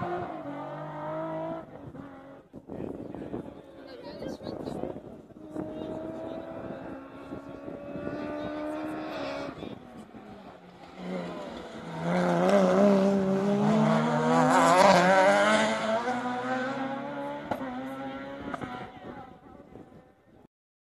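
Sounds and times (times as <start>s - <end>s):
rally car engine revving: 0.0s - 2.5s, 4.9s - 19.9s.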